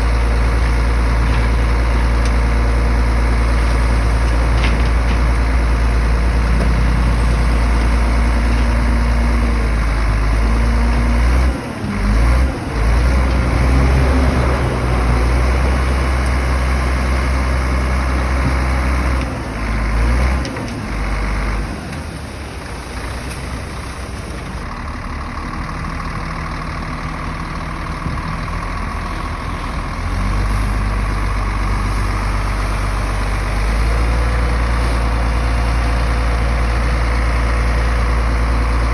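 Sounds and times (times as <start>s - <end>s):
diesel engine of heavy machinery: 0.0s - 38.9s.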